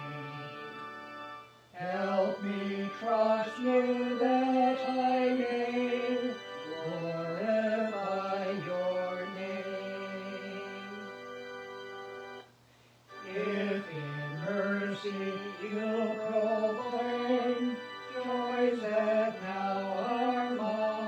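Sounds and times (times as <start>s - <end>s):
slow hymn melody: 0.0s - 21.0s.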